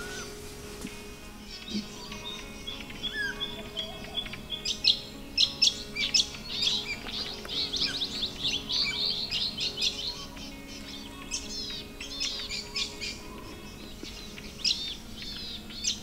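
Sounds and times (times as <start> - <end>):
birds chirping in chorus: 0.0 - 16.0.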